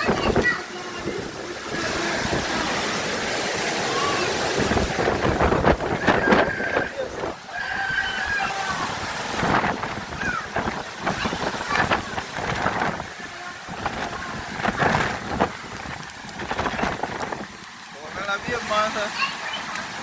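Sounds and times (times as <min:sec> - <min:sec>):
wind buffeting microphone: 0:00.0 - 0:17.8.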